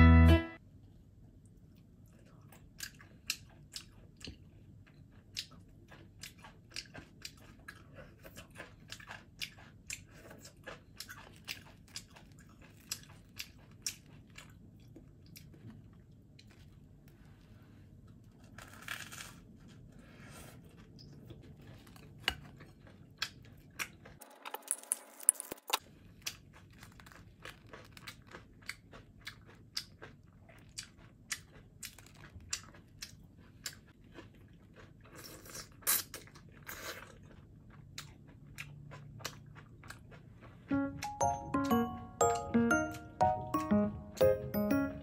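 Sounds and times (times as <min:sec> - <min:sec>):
person chewing crisp toast: 0:01.7 - 0:17.2, 0:17.9 - 0:24.2, 0:25.7 - 0:41.2.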